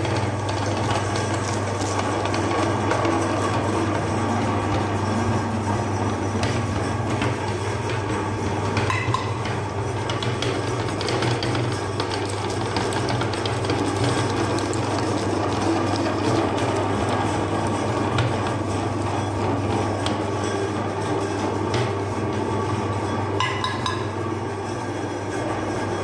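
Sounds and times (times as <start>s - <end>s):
electric meat grinder humming: 0.0s - 23.0s.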